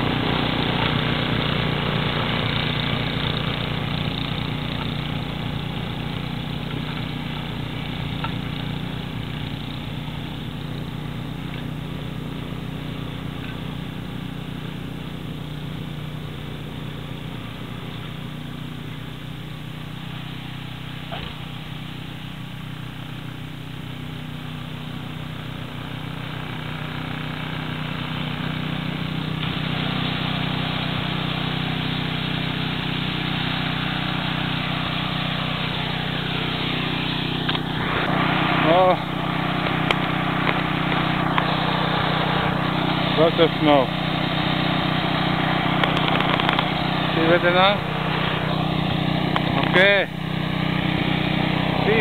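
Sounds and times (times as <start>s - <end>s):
snow blower engine running: 0.0s - 52.0s.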